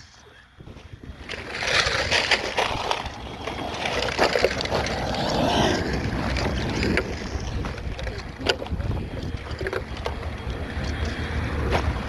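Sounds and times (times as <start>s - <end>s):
wind buffeting microphone: 0.0s - 12.0s
tyres crunching on gravel: 0.1s - 12.0s.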